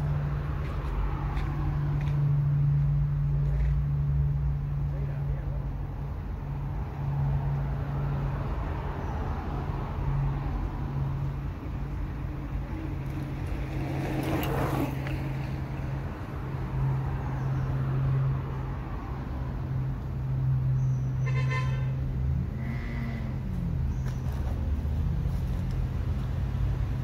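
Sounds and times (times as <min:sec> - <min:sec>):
vehicle passing: 0:00.0 - 0:21.2, 0:21.8 - 0:27.0
road traffic rumble: 0:00.0 - 0:27.0.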